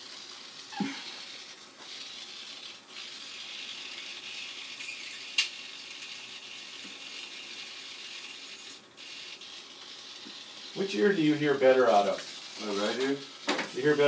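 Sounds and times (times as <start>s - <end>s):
suction hissing: 0.0s - 14.0s.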